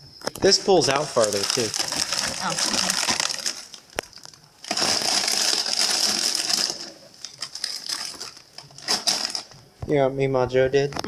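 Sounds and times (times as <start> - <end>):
plastic packaging crinkling: 0.4 - 9.6.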